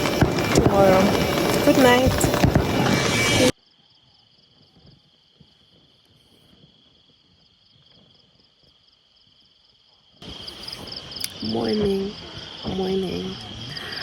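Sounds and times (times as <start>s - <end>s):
insect trill: 0.0s - 14.0s.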